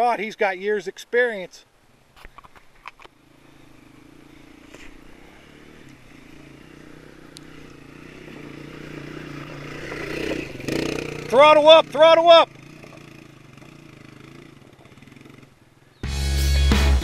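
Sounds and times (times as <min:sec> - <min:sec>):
dirt bike engine pulling uphill: 0:02.1 - 0:16.1.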